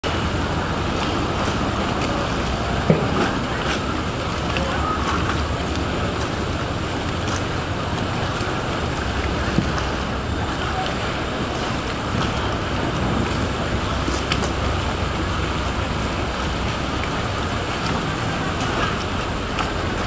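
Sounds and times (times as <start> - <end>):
boat engines running: 0.0 - 20.0
water churning: 0.0 - 20.0.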